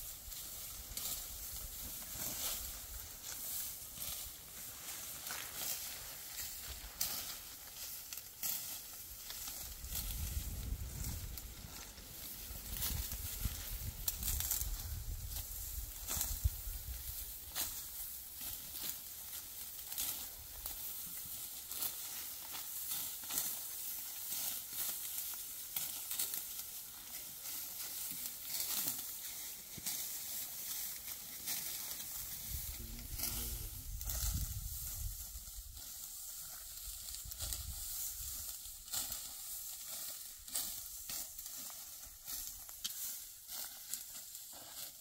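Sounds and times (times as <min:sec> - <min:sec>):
dry wheat stalks rustling and crackling: 0:00.0 - 0:45.0.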